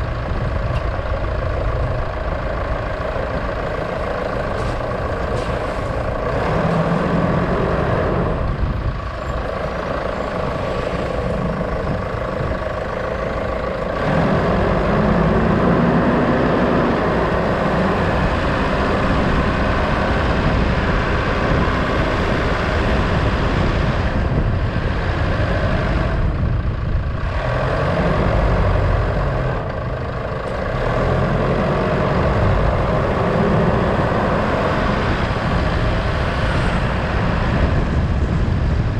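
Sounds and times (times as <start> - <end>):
road noise: 0.0 - 38.9
vehicle engine running: 0.0 - 38.9.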